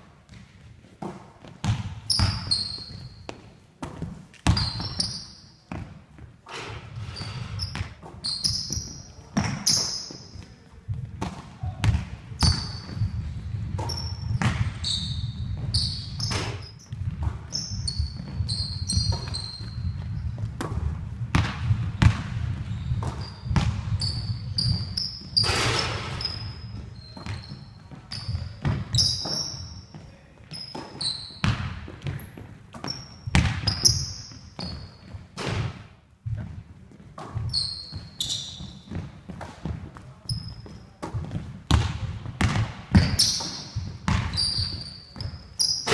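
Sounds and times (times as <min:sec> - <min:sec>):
sneaker squeaks: 0:00.2 - 0:45.9
basketball bouncing on wooden floor: 0:00.3 - 0:05.1, 0:05.7 - 0:06.3, 0:07.0 - 0:30.0, 0:30.7 - 0:45.9.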